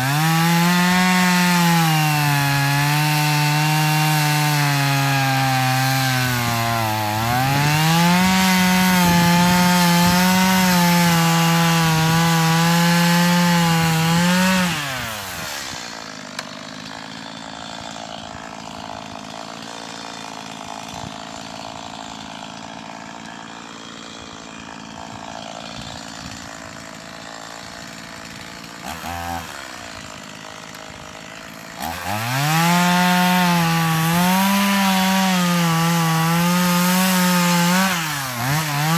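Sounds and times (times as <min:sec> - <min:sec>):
chainsaw cutting bark: 0:00.0 - 0:38.9.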